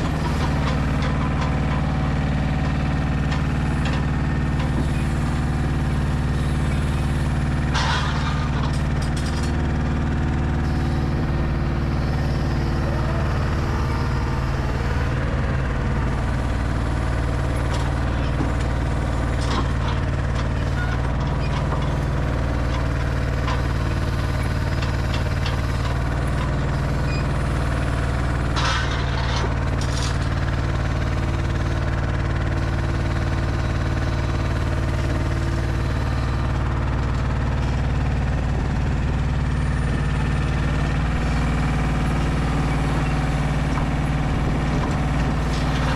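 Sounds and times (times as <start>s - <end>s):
diesel truck engine droning: 0.0s - 45.9s.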